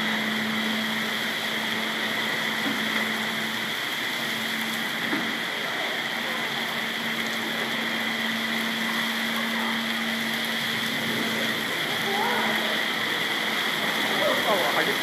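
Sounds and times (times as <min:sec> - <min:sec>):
faint steady hum: 0:00.0 - 0:15.0
torrential rain: 0:00.0 - 0:15.0.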